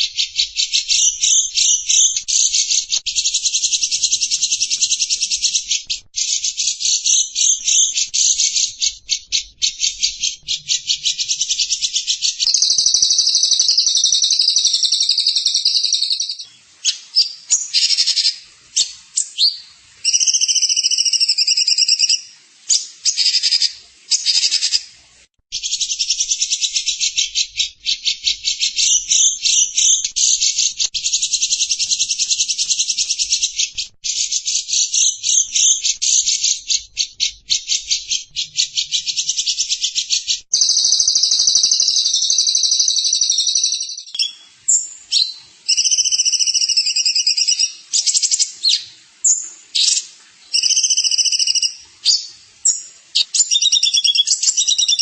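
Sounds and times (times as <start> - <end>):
songbird singing trills: 0.0 - 24.8, 25.6 - 55.0.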